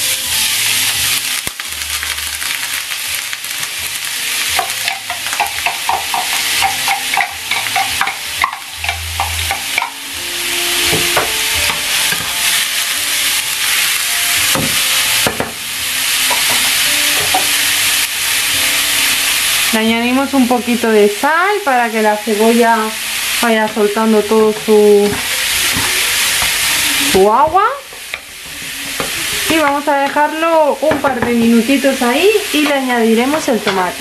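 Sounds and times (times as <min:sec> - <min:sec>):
onion sizzling in hot oil: 0:00.0 - 0:34.0.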